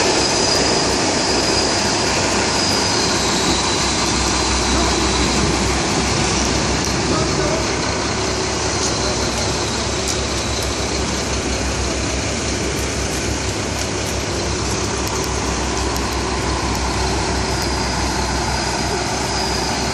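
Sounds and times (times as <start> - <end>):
truck diesel engine idling: 0.0 - 19.9.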